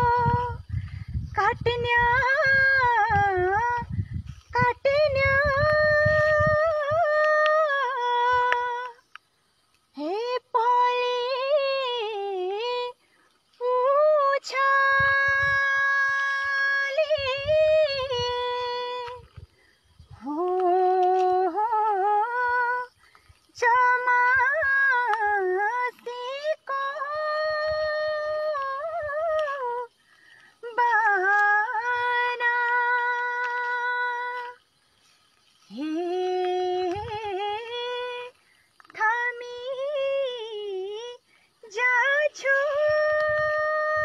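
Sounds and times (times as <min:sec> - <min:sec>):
woman singing unaccompanied: 0:00.0 - 0:44.0.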